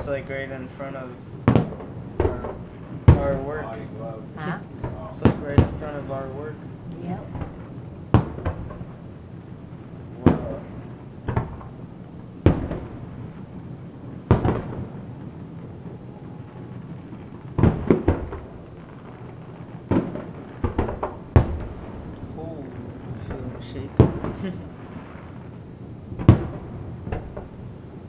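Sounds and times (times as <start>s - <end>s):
firework shells bursting: 0.0s - 28.0s.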